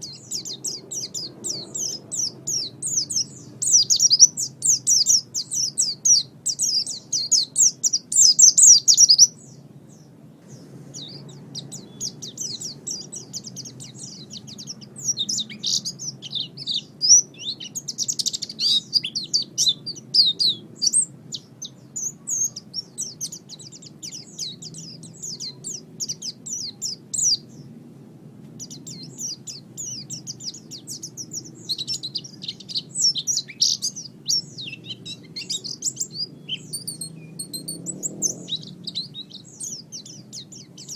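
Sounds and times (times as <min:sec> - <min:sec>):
bird twittering and trilling: 0:00.0 - 0:27.8, 0:28.6 - 0:40.9.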